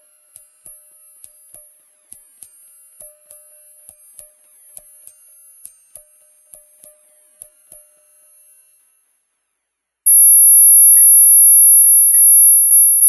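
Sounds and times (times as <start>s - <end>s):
high-pitched steady tone: 0.0s - 13.0s.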